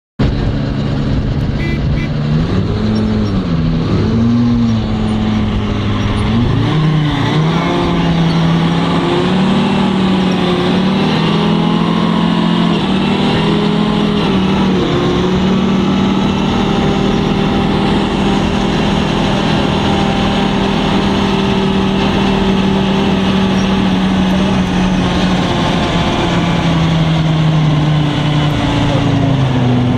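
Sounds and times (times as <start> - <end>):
armoured vehicle engine revving: 0.2 - 29.9.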